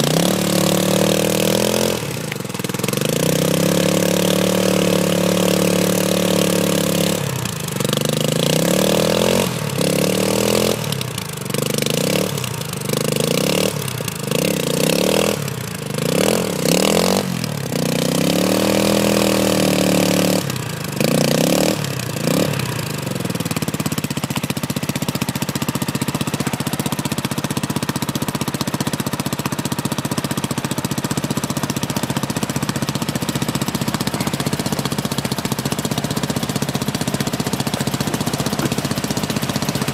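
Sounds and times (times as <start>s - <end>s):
quad engine revving: 0.0s - 39.9s
wheels spinning in mud: 0.0s - 39.9s.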